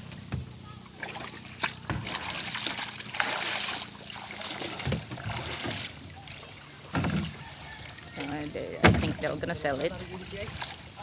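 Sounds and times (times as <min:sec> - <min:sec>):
seawater splashing from wading: 0:00.8 - 0:11.0.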